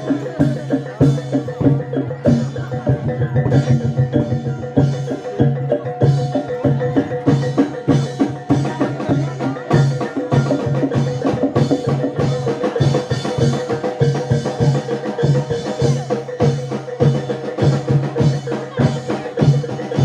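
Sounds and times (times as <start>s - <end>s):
hand drums: 0.0s - 20.0s
tuned metal percussion: 0.0s - 20.0s.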